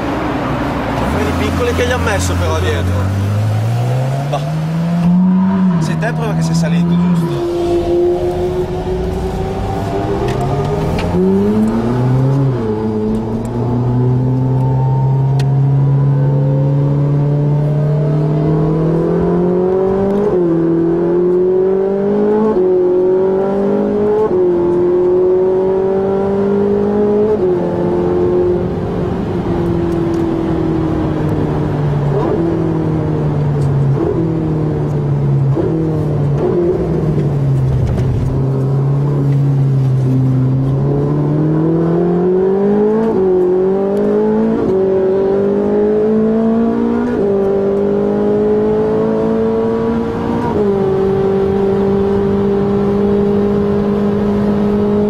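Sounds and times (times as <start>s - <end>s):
car engine accelerating with upshifts: 0.0s - 55.0s.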